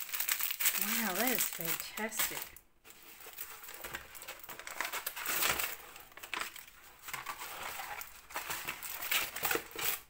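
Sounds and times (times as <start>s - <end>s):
canvas and paper rustling: 0.0s - 10.0s.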